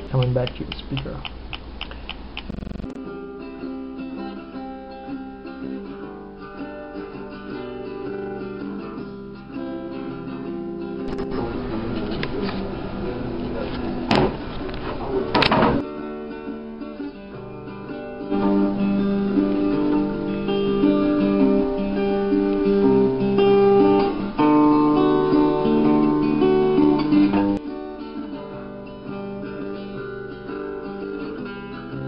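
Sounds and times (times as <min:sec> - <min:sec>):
acoustic guitar: 0:01.8 - 0:32.0.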